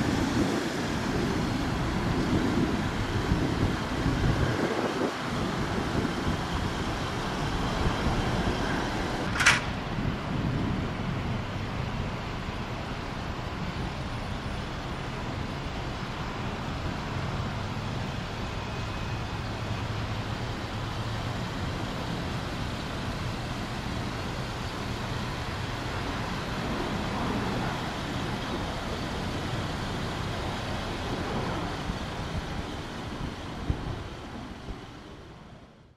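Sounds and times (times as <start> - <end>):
jet engines rushing: 0.0 - 35.9.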